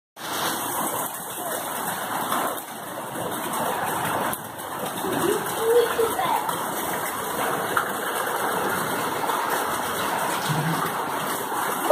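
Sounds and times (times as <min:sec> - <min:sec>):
floodwater rushing: 0:00.2 - 0:11.9
heavy rain: 0:00.2 - 0:11.9.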